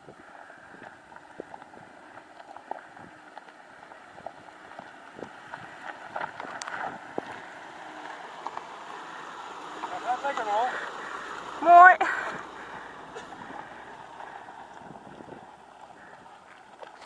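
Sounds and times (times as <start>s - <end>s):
gravel crunching under tyres: 0.0s - 17.0s
low engine hum: 0.0s - 17.0s.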